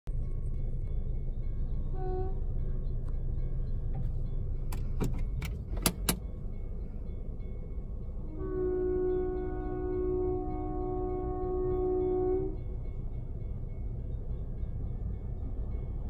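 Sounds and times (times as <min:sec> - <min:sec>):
low rumble in car cabin: 0:00.1 - 0:13.4.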